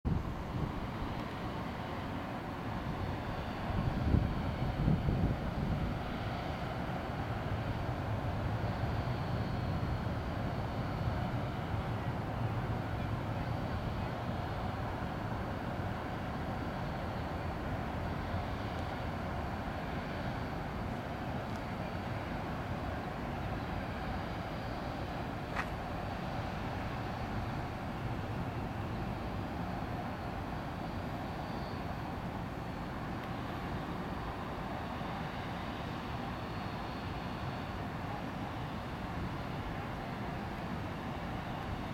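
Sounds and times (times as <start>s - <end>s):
distant jet airliner rumble: 0.1s - 41.9s
faint high whine: 0.1s - 41.9s
urban background noise: 0.1s - 41.9s.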